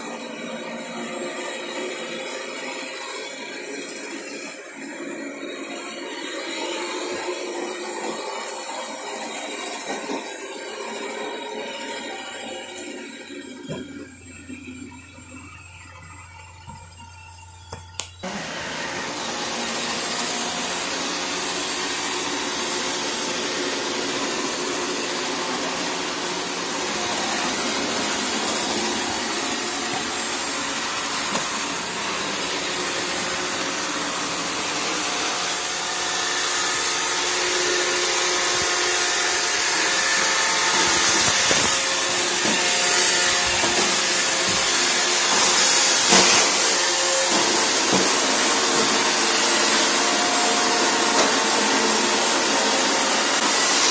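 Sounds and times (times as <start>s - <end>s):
robot vacuum whirring: 0.0s - 53.9s.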